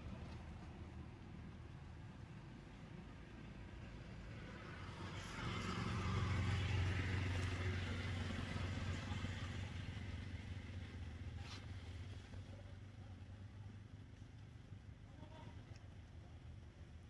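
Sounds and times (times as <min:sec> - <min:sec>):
vehicle engine hum passing: 0:00.0 - 0:17.0.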